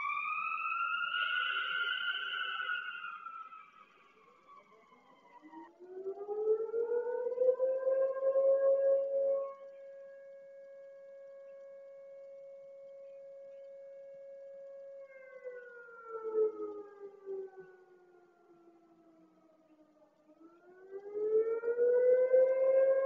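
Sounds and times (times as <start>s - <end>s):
fire siren wailing: 0.0s - 12.8s, 13.4s - 23.0s.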